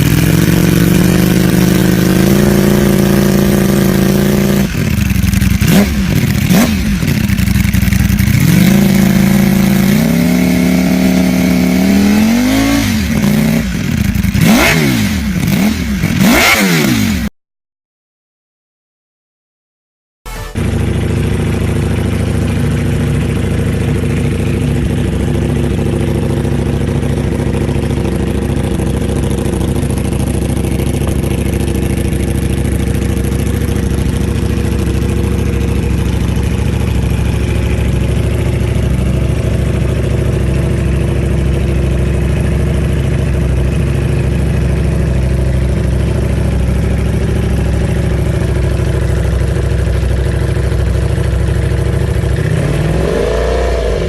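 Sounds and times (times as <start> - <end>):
motorcycle engine idling: 0.0 - 17.3, 20.3 - 54.0.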